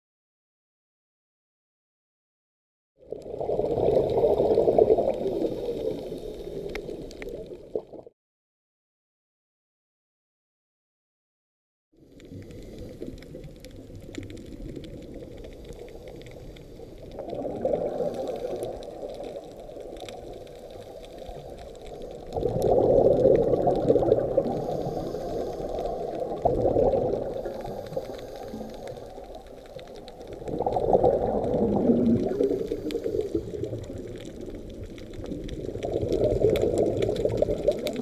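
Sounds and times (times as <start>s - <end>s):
underwater regulator breathing and bubbles: 3.1s - 8.1s, 12.0s - 38.0s.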